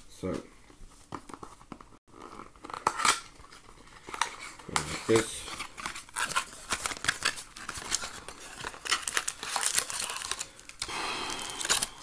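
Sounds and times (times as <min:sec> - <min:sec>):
packaging crinkling and tearing: 0:02.1 - 0:12.0.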